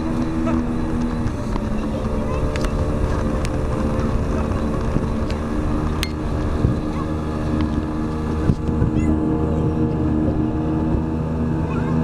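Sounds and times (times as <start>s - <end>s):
outboard motor running: 0.0s - 12.0s
wind on microphone: 0.0s - 12.0s.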